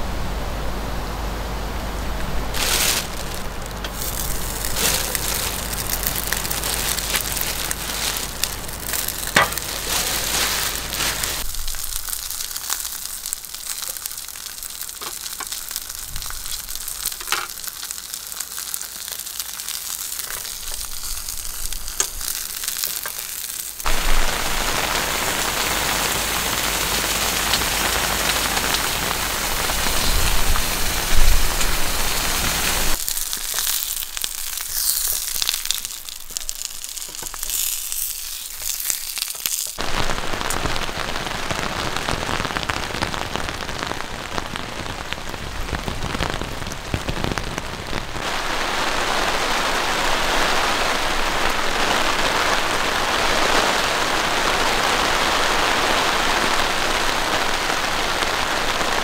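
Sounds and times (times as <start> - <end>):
heavy rain falling: 0.0 - 34.5, 39.7 - 59.0.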